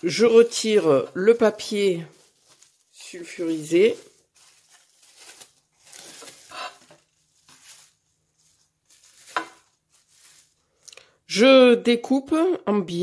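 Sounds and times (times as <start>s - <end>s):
cling film crinkling: 0.0s - 11.1s.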